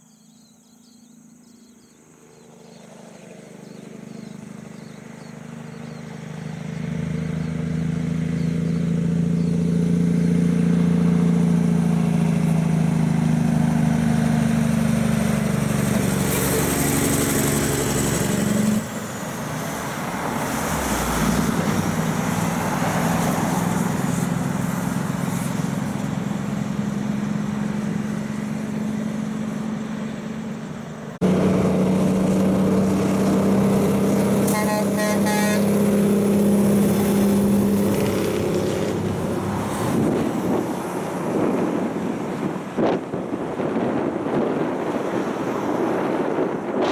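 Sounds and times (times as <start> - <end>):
diesel truck engine drone: 0.0 - 46.9.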